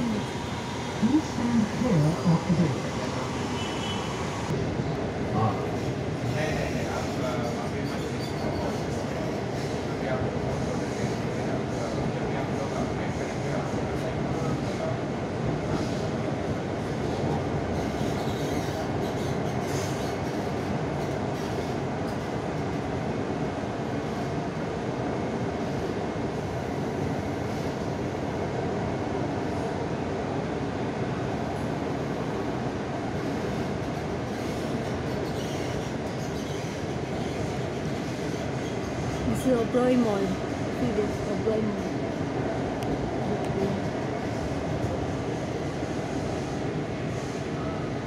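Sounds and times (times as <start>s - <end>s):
train running on track: 0.0s - 48.0s.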